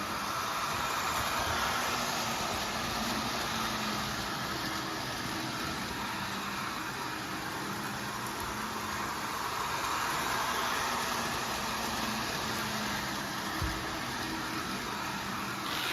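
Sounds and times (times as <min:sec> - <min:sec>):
model train motor whirring: 0:00.0 - 0:15.9.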